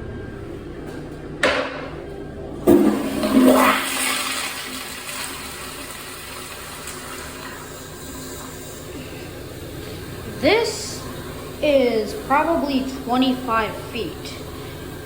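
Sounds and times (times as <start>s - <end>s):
toilet flushing: 2.3s - 15.0s
hiss of toilet refilling: 2.7s - 15.0s.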